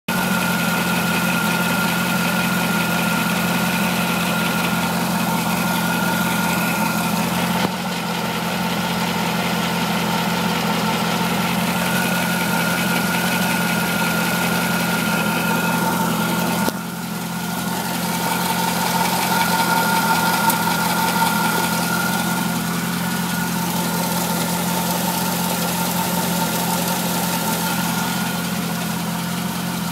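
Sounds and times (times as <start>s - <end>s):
car engine idling: 0.1s - 29.9s
engine ticking: 0.1s - 29.9s.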